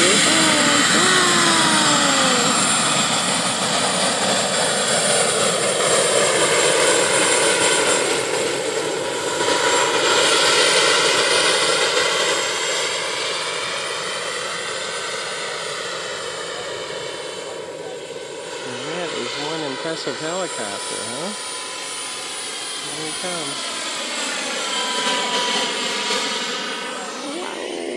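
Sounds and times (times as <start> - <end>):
helicopter rotors: 0.0 - 27.9
high turbine whine: 0.0 - 27.9.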